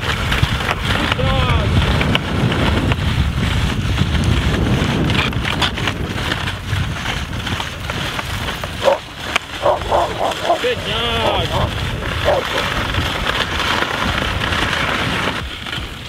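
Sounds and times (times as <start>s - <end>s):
sled runners on snow: 0.0s - 16.0s
wind buffeting microphone: 0.0s - 16.0s.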